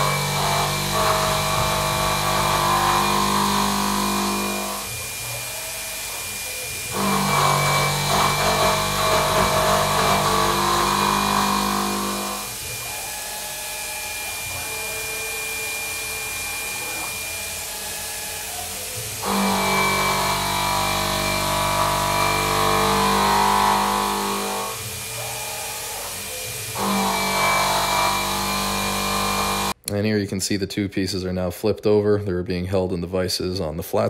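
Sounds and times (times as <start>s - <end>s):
mill cutting metal: 0.0s - 29.8s
spindle and motors whining: 0.0s - 29.8s.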